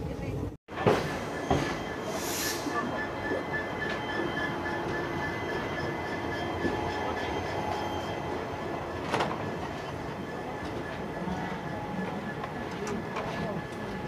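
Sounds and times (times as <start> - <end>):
train running on rails: 0.7 - 14.0.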